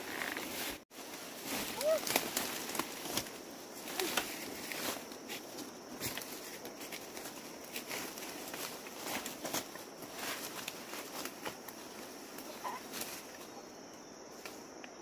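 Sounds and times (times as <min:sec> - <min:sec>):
undergrowth rustling and crackling: 0:00.0 - 0:15.0
footsteps crunching dry leaves: 0:00.2 - 0:13.5.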